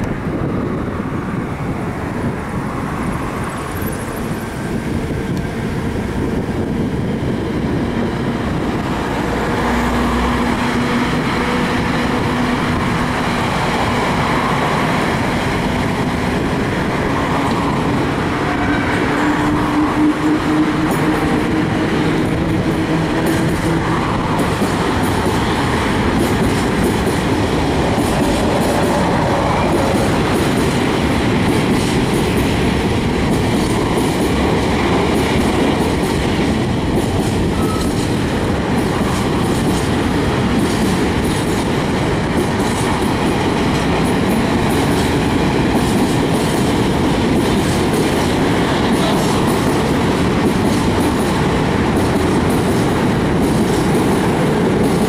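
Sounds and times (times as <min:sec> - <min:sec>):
freight train rolling rumble: 0:00.0 - 0:55.0.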